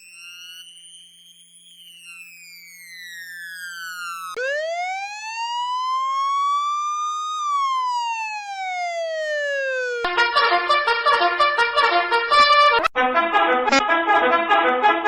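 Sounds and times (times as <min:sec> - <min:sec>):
synthetic siren wail: 0:02.1 - 0:15.0.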